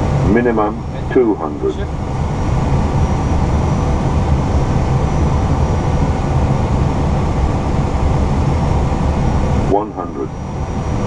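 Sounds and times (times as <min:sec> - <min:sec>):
airflow and engine rumble: 0:00.0 - 0:11.0
faint high whine: 0:00.0 - 0:11.0.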